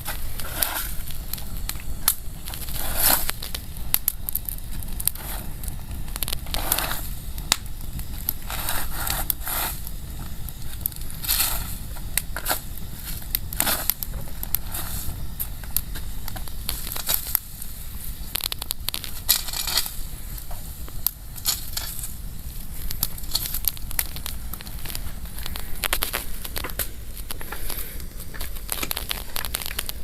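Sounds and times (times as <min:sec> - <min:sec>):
bonfire crackling and snapping: 0:00.0 - 0:30.0.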